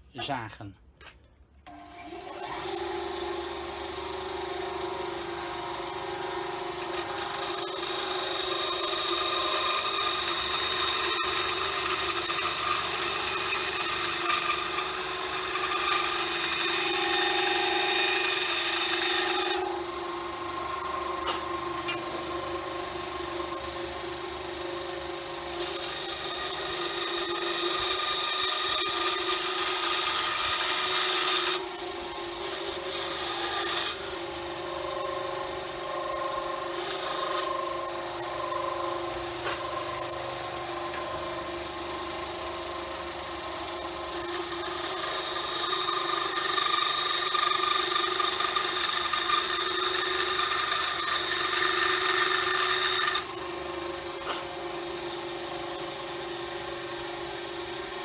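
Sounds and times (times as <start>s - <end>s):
bandsaw motor humming: 1.6s - 58.0s
bandsaw cutting wood: 1.7s - 58.0s.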